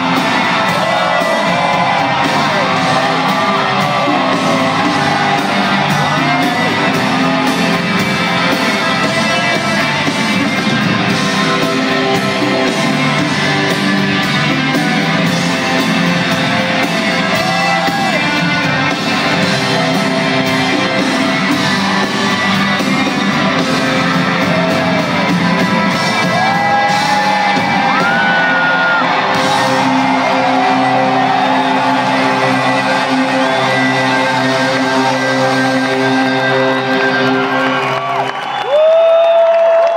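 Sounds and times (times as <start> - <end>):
live rock band: 0.0 - 38.9.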